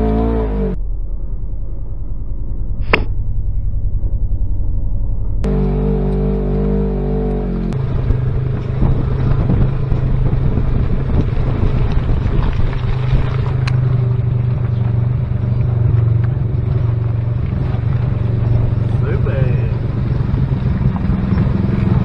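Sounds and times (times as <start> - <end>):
road noise: 0.0 - 0.8, 2.8 - 22.0
utility vehicle engine rattling drone: 0.0 - 22.0.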